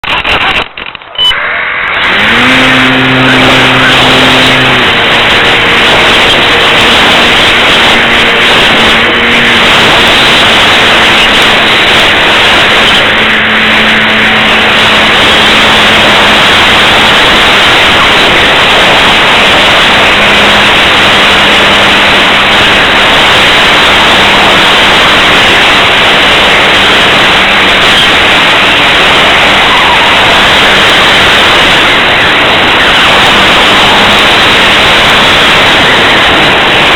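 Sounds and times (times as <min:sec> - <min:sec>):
faint motor drone: 0:01.2 - 0:36.9
wind buffeting microphone: 0:01.8 - 0:36.9.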